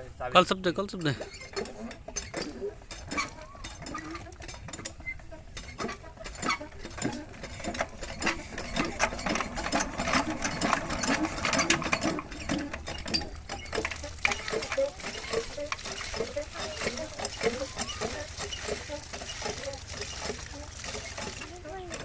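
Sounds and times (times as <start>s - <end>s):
small motor mechanism clattering: 0.6s - 22.0s.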